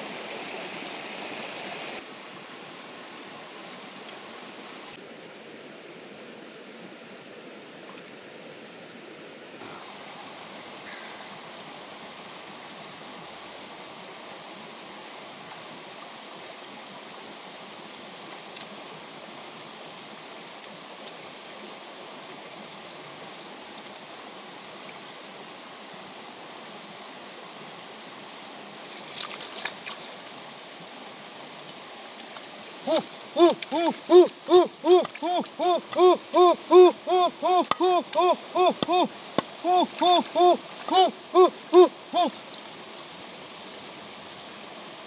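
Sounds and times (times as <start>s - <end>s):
stream running over rocks: 0.0s - 45.0s.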